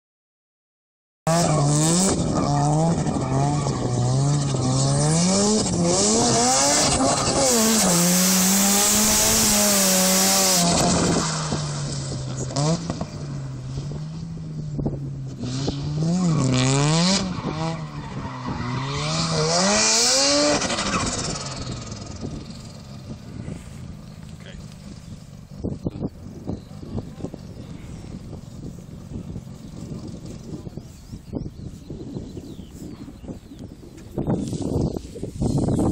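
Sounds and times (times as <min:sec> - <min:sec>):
rotary engine revving: 0:01.3 - 0:30.8.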